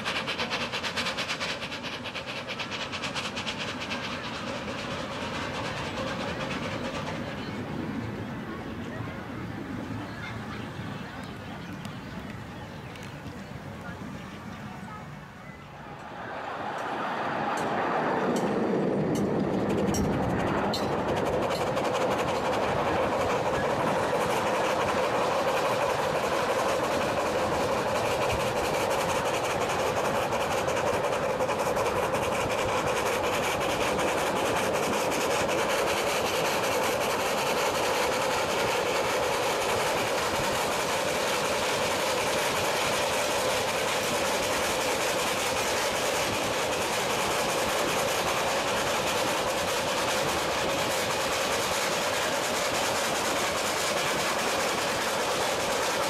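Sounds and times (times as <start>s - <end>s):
steam locomotive exhaust: 0.0s - 56.0s
wheels on rails: 0.0s - 56.0s.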